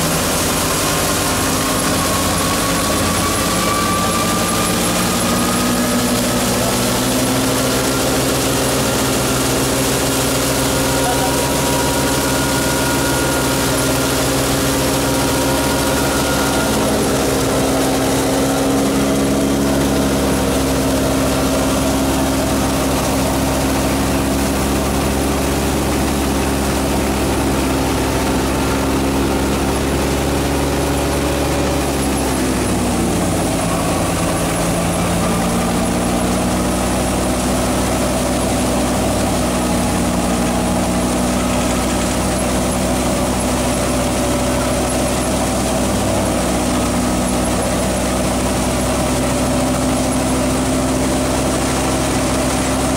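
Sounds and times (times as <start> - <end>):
wheat thresher machine hum: 0.0 - 52.9.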